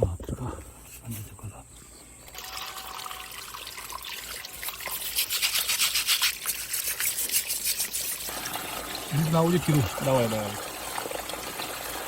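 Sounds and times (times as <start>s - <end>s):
water trickling and splashing: 2.3s - 12.0s.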